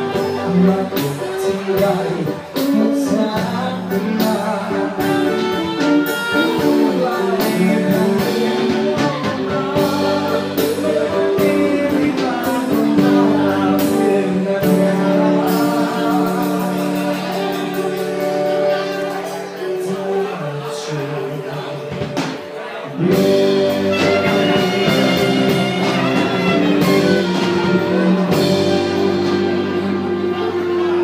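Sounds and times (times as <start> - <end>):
drum kit beat: 0.0 - 20.3, 21.4 - 31.0
electric guitar: 0.0 - 31.0
person singing: 0.0 - 31.0.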